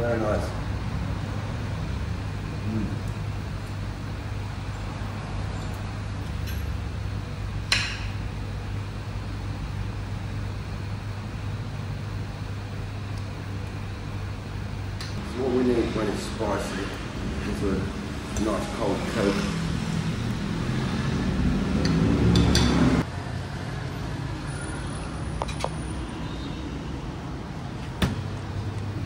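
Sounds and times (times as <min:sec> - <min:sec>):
street traffic hum: 0:00.0 - 0:29.0.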